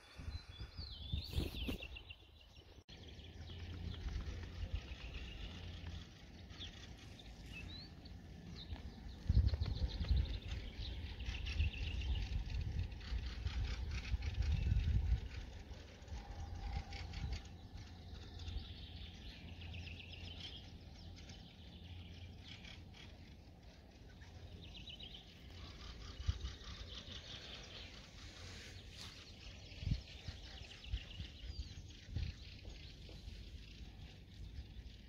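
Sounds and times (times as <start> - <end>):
nightingales singing: 0.0 - 35.0.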